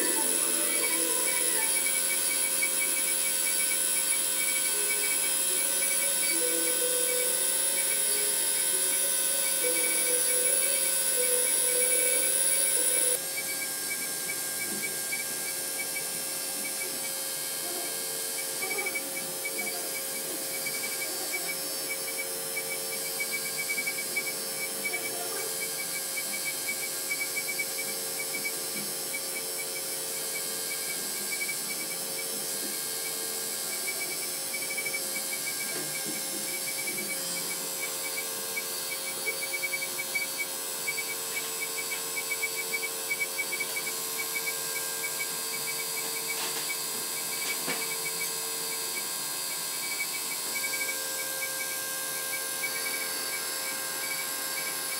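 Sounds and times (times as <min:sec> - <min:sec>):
motor whine: 0:00.0 - 0:54.9.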